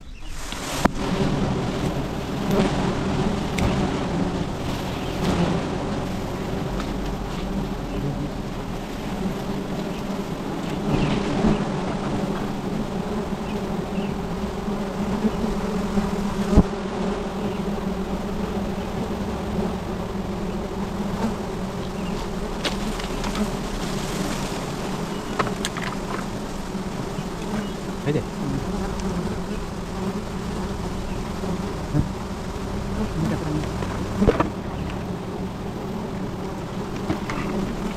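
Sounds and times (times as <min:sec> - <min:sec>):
honeybees buzzing: 0:00.0 - 0:37.9.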